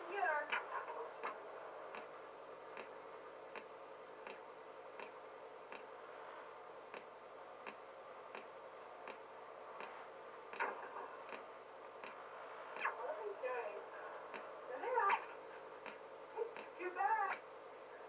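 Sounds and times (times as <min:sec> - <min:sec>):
faint regular ticking: 0:00.4 - 0:06.0, 0:06.8 - 0:12.9, 0:13.6 - 0:17.5.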